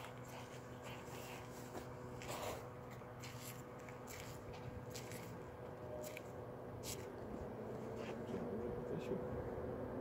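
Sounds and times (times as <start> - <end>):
low station hum: 0.0 - 10.0.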